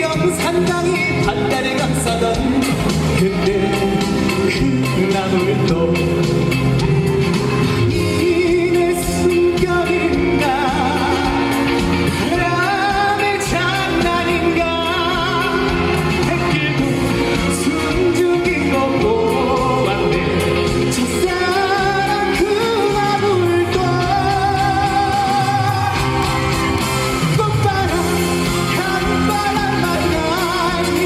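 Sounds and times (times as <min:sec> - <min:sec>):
backing track with bass beat: 0:00.0 - 0:31.0
person singing with vibrato: 0:00.0 - 0:31.0.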